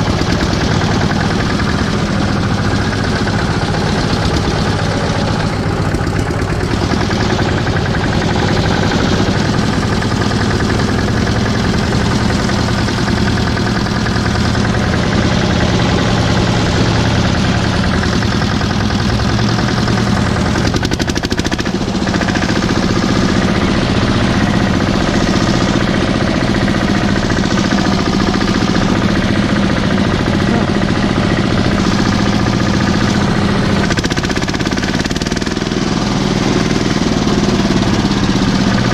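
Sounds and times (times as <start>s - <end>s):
knocking beat of tractor driving: 0.0s - 38.9s
mini tractor engine running: 0.0s - 38.9s.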